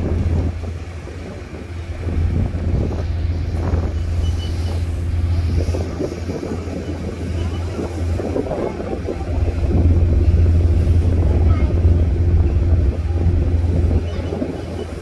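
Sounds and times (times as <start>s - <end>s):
ship engines humming: 0.0s - 15.0s
wind buffeting microphone: 0.0s - 15.0s.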